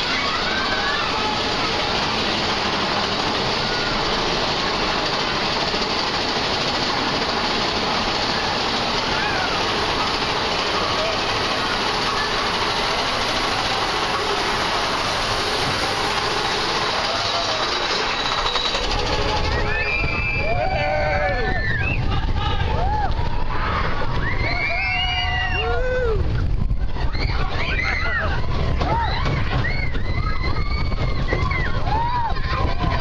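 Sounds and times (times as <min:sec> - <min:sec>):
roller coaster rumbling: 0:00.0 - 0:33.0.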